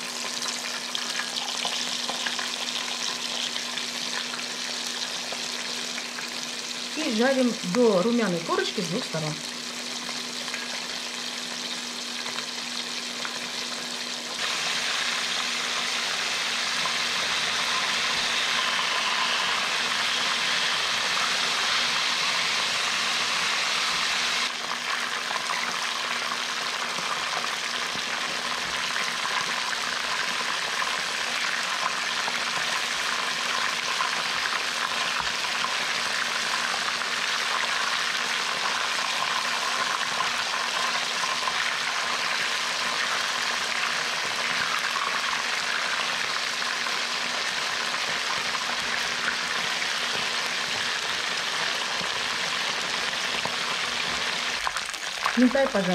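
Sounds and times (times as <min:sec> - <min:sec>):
fish frying in oil: 0:00.0 - 0:55.9.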